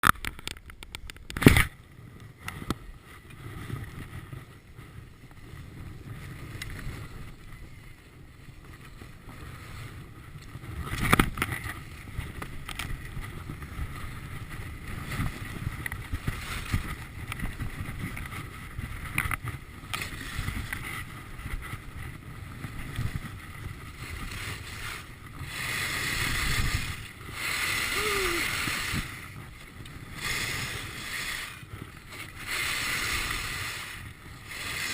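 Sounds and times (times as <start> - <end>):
wind on microphone: 0.0 - 34.9
skis scraping over snow: 1.8 - 34.9.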